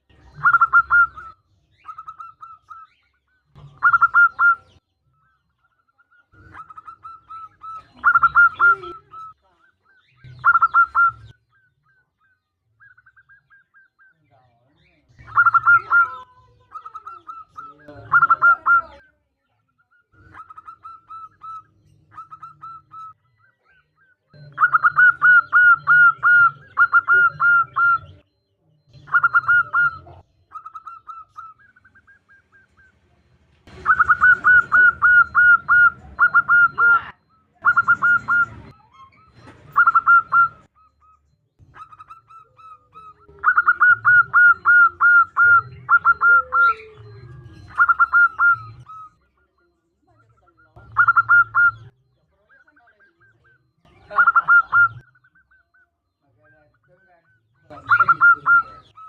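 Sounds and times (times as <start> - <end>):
dove cooing: 0.0 - 19.2, 19.9 - 59.0.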